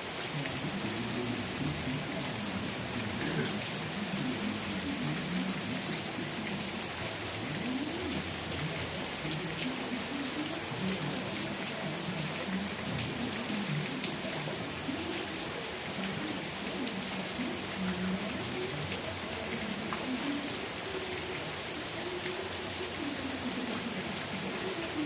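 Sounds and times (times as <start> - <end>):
raindrops ticking on surface: 0.0 - 25.0
steady rain hiss: 0.0 - 25.0.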